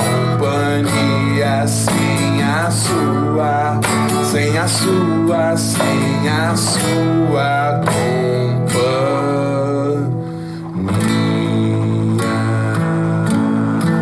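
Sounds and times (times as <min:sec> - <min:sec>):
acoustic guitar: 0:00.0 - 0:14.0
man singing: 0:00.0 - 0:14.0.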